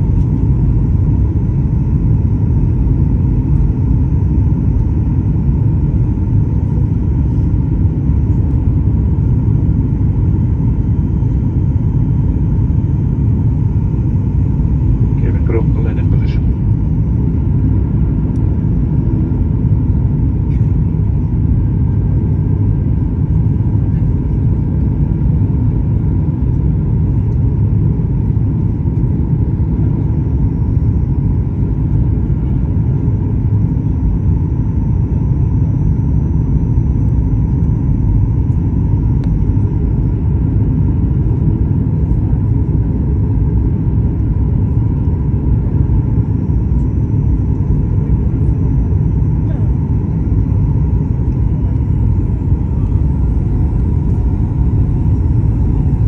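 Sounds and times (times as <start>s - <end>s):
jet engine and airflow rumble: 0.0s - 56.0s.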